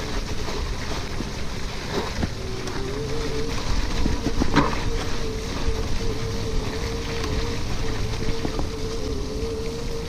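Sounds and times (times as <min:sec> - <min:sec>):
electric hub motor whine: 0:00.0 - 0:10.0
tyre rumble: 0:00.0 - 0:10.0
wind buffeting microphone: 0:00.0 - 0:10.0.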